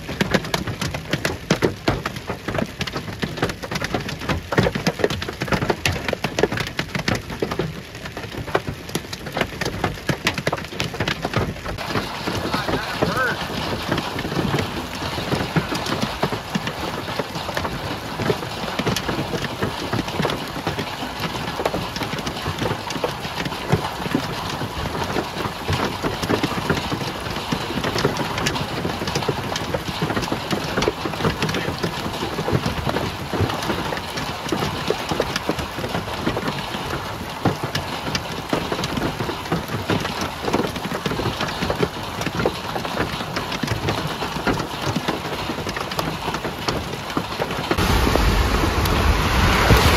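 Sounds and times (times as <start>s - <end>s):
hailstones pelting down: 0.0s - 49.9s.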